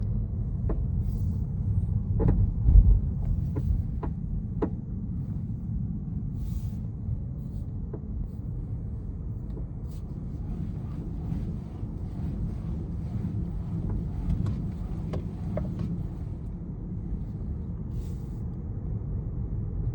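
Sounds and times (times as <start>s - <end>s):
car road rumble: 0.0s - 19.9s.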